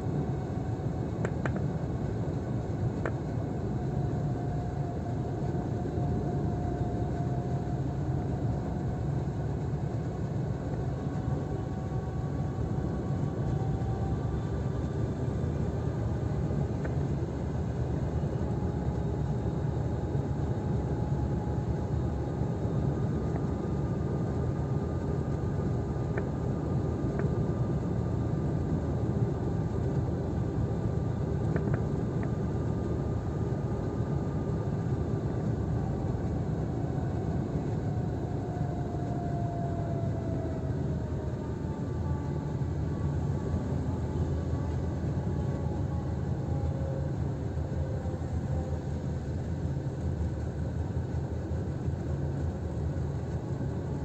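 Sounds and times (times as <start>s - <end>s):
car engine and tyre rumble: 0.0s - 54.0s
faint whine: 0.0s - 54.0s.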